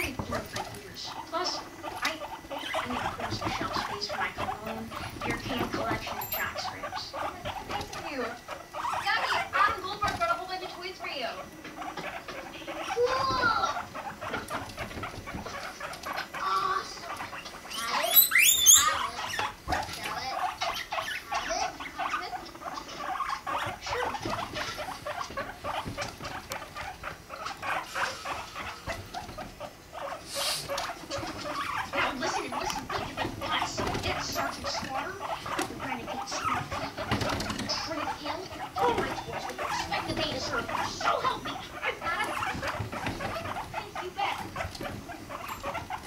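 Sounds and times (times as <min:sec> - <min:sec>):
guinea pig rumbles and squeaks: 0:00.0 - 0:46.0
guinea pig squeal: 0:00.0 - 0:46.0.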